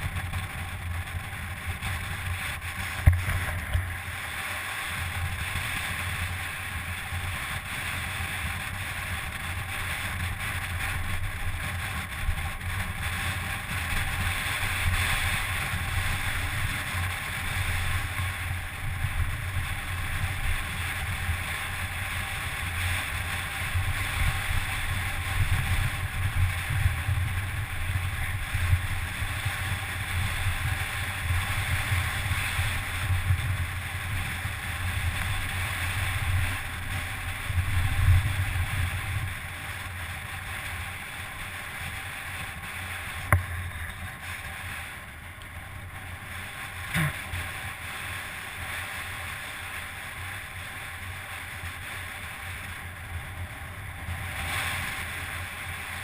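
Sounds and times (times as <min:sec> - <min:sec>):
mountain bike rolling: 0:00.0 - 0:56.0
wind rushing over microphone: 0:00.0 - 0:56.0.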